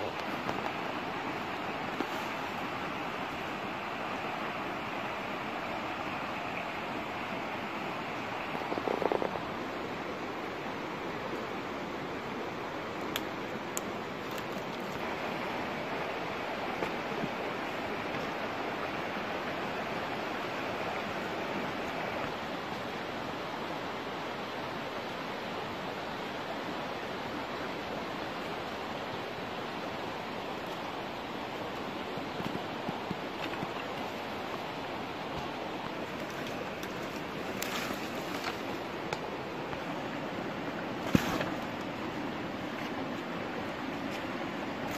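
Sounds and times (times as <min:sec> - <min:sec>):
steady outdoor rushing noise: 0:00.0 - 0:44.9.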